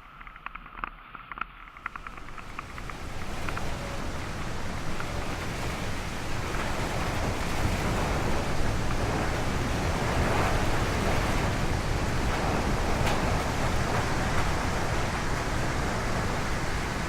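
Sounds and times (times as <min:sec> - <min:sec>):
road and wind noise: 0:00.1 - 0:17.0.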